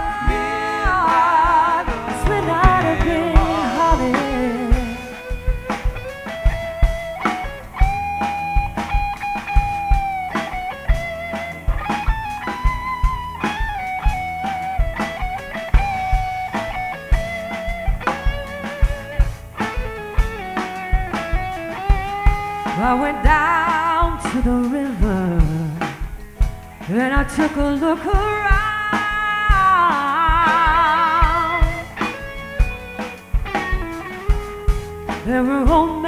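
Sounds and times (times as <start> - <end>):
electric guitar solo: 0.0 - 27.1, 28.2 - 36.0
live band with drums: 0.0 - 36.0.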